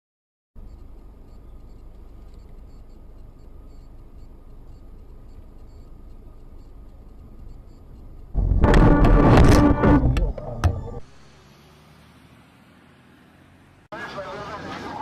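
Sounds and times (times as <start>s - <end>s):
car driving rumble: 0.6s - 15.0s.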